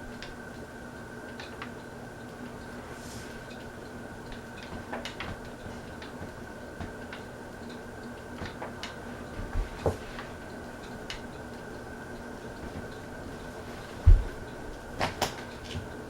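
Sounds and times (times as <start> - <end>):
ceiling fan humming: 0.0 - 16.0.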